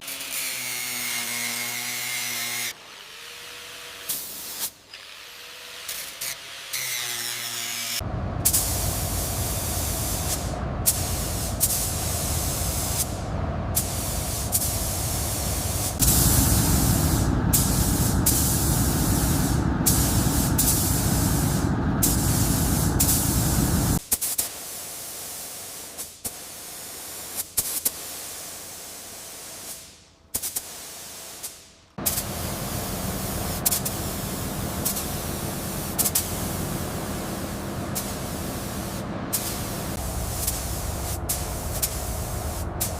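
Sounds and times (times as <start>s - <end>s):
steady hissing spray: 8.0s - 42.9s.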